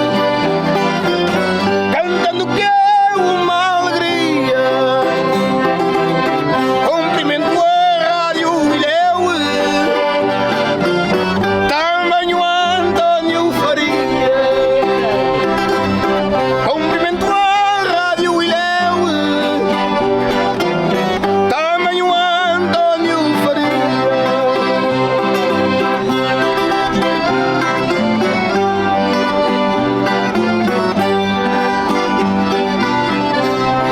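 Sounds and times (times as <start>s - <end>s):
accordion: 0.0s - 33.9s
plucked string instruments: 0.0s - 33.9s.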